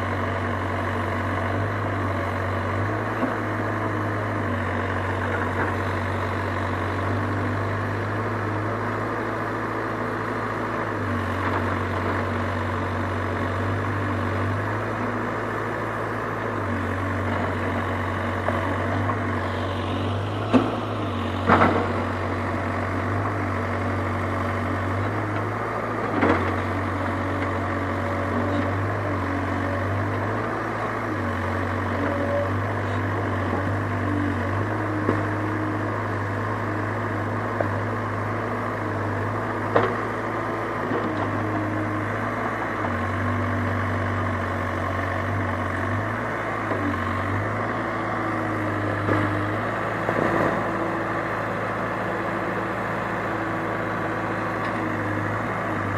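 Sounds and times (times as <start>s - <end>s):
digger diesel engine running: 0.0s - 55.9s.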